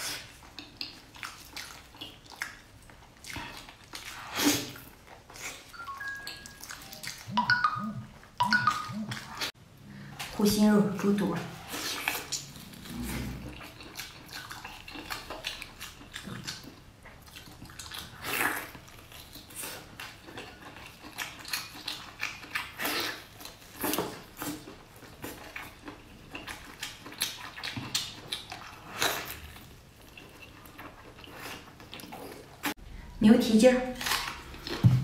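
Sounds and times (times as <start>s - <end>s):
wet chewing and lip-smacking: 0.0s - 9.5s, 11.7s - 32.8s.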